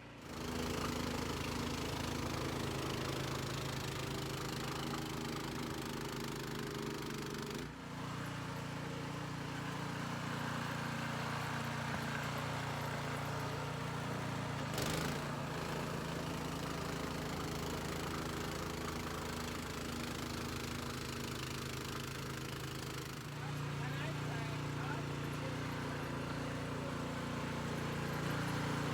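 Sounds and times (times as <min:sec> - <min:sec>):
snowblower engine running: 0:00.0 - 0:28.9.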